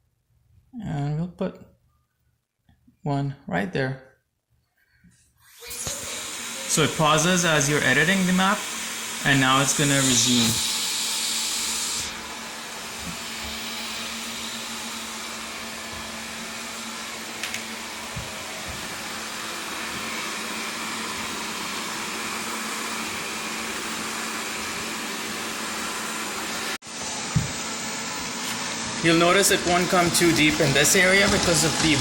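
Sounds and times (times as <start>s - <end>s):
robot vacuum whirring: 5.5s - 32.0s.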